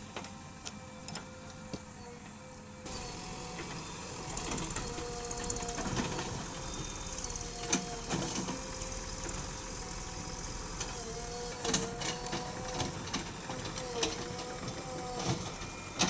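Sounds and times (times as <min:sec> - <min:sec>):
backhoe engine and hydraulics whine: 0:00.0 - 0:16.0.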